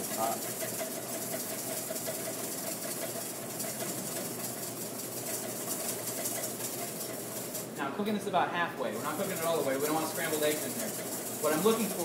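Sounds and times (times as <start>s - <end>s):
whisk scraping in metal bowl: 0.0s - 7.8s, 8.9s - 12.0s
steady hum: 0.0s - 12.0s.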